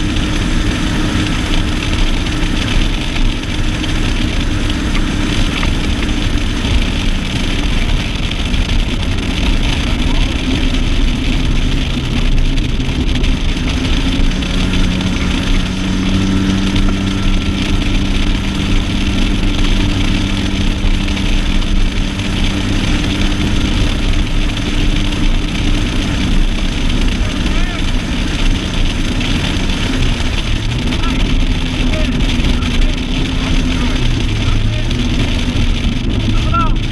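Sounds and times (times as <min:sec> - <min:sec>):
outboard motor humming: 0:00.0 - 0:36.9
rushing wind and water: 0:00.0 - 0:36.9.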